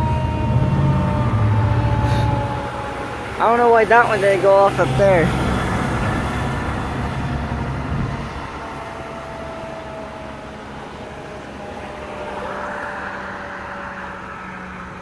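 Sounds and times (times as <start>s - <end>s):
siren winding down: 0.0s - 15.0s.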